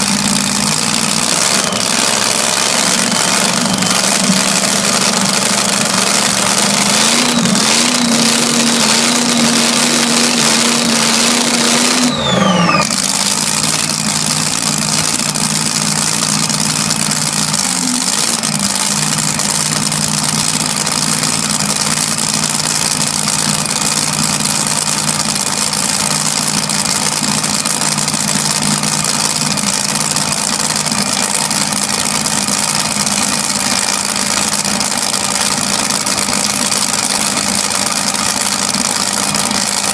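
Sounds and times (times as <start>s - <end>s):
hot rod engine idling: 0.0s - 39.9s.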